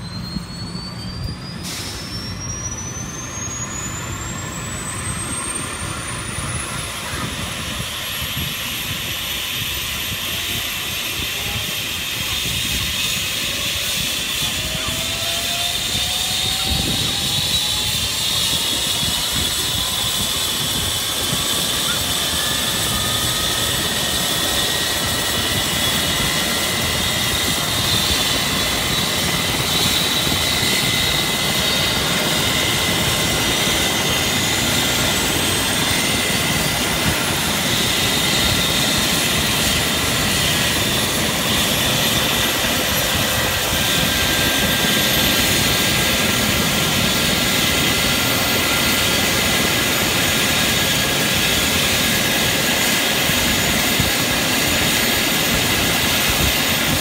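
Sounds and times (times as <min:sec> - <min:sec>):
helicopter rotor turning: 0:00.0 - 0:57.0
helicopter turbine whine: 0:00.0 - 0:57.0.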